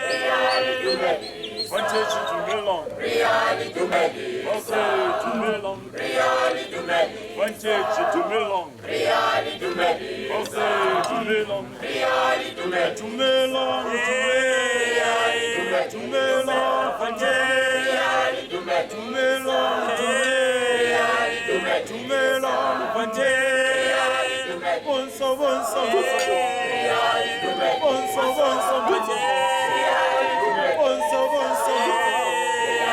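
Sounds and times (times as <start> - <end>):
choir singing unaccompanied: 0.0 - 32.9.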